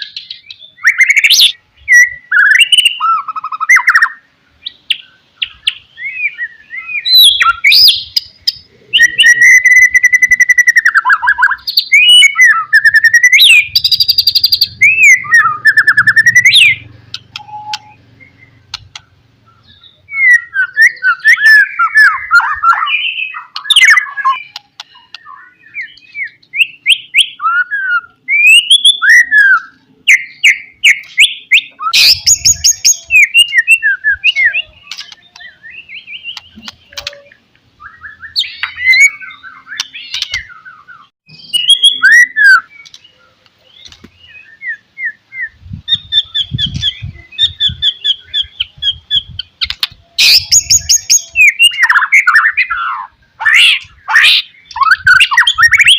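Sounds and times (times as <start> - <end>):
bird singing whistled phrases: 0.0 - 55.9.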